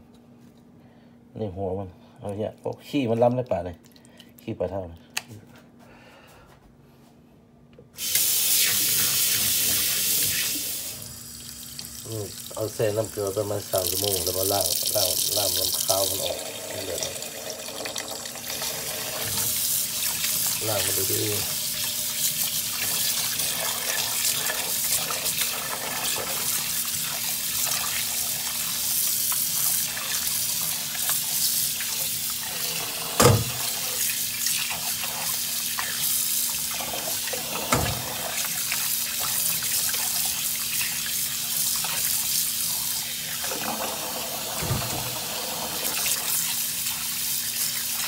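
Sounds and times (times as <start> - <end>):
tap water pouring into a pot: 8.0 - 48.0.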